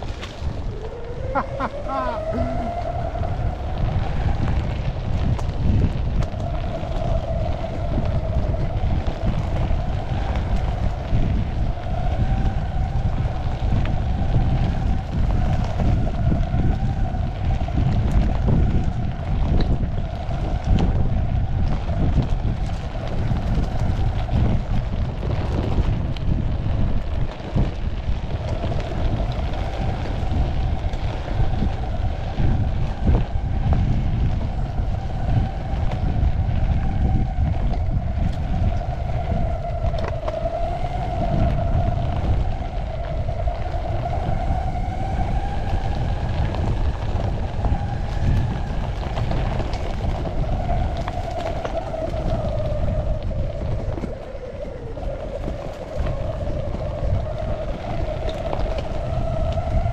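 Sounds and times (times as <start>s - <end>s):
electric skateboard drive whining: 0.0s - 59.9s
wheels rolling on dirt: 0.0s - 59.9s
wind on the microphone: 0.0s - 59.9s.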